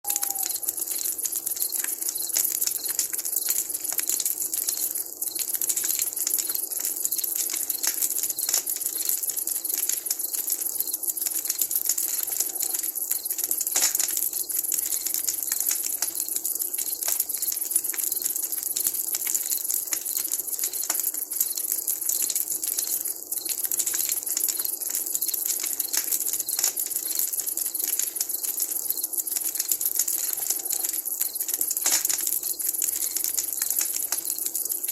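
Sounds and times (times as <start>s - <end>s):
campfire crackling: 0.0s - 34.9s.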